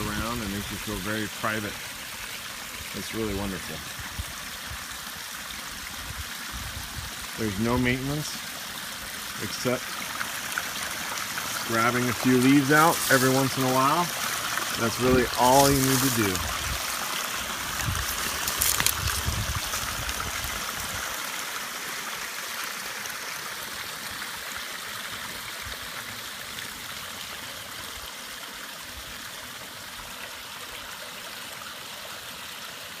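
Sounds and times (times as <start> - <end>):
waterfall trickling and splashing: 0.0 - 33.0.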